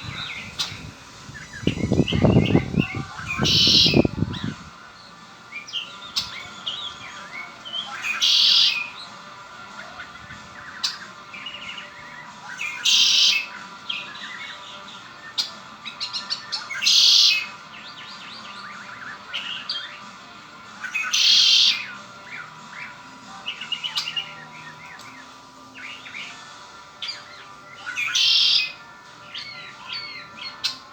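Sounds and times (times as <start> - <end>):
soft bird chirps: 0.0 - 4.6, 5.6 - 9.1, 9.8 - 20.0, 20.8 - 30.9
blackbird song with buzzy trill: 0.0 - 30.9.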